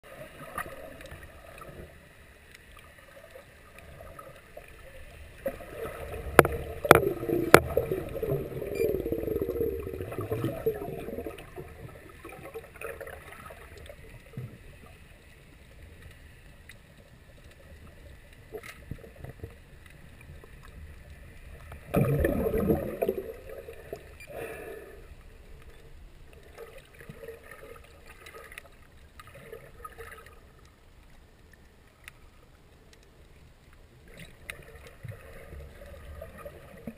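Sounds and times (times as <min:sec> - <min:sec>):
water sloshing and gurgling: 0:00.0 - 0:36.9.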